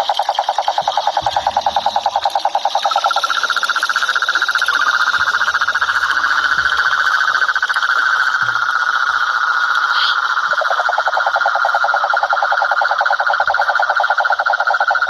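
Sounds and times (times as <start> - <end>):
low pulsed toad trill: 0.0 - 15.0.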